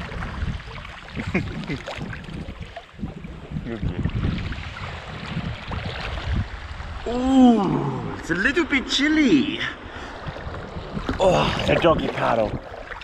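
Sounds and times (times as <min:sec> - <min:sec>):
water bubbling gurgles: 0:00.0 - 0:08.2, 0:10.2 - 0:13.0
water splashing and sloshing: 0:00.0 - 0:13.0.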